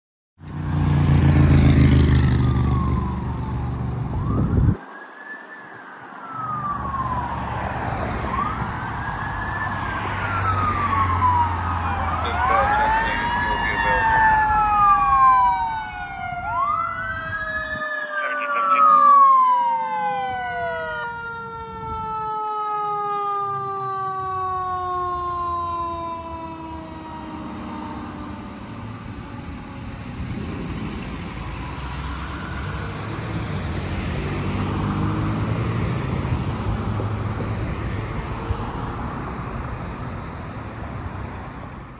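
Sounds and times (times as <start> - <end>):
truck engine and tyre noise: 0.4 - 41.9
fire engine siren wailing: 1.4 - 41.9
long falling siren tone: 2.0 - 41.6.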